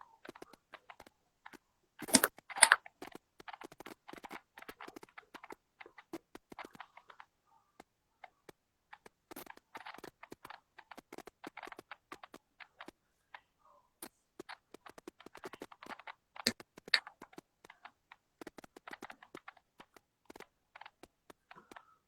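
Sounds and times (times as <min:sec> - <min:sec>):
quick taps clicks and rustles: 0:00.2 - 0:13.4, 0:14.0 - 0:22.0.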